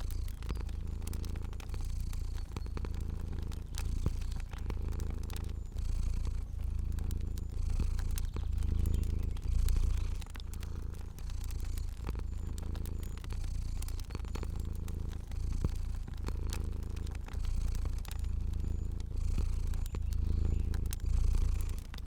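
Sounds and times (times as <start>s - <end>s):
cat purring: 0.0s - 22.0s
fire crackling: 0.0s - 22.0s.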